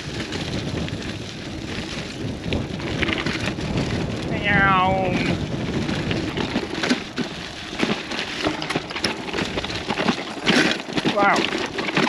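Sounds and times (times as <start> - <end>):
bike rattling: 0.0 - 12.0
bike tyres crunching on gravel: 0.0 - 12.0.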